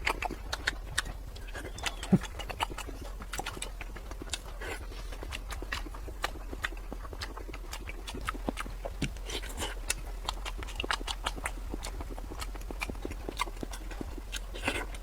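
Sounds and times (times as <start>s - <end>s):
chewing and lip-smacking: 0.0s - 15.0s
low hum: 0.0s - 15.0s
sharp mouth clicks: 0.0s - 15.0s.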